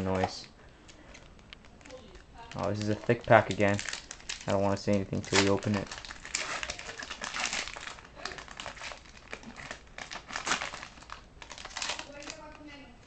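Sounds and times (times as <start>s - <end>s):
foil wrapper crinkling: 0.1s - 12.8s.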